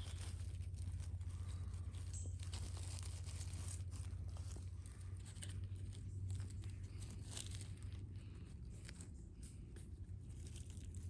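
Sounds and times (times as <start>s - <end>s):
dry leaves rustling and crackling: 0.0s - 11.0s
low hum: 0.0s - 11.0s.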